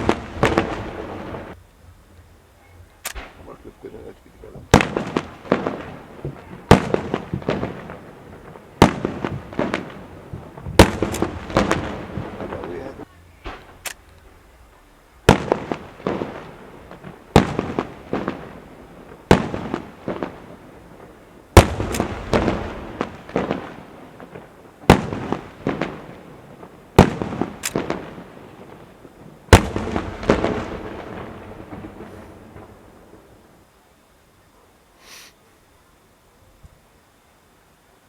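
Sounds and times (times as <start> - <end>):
smaller firework cracks: 0.0 - 2.2, 2.9 - 33.8
rolling echo: 0.0 - 33.7
fireworks bangs: 0.0 - 33.8.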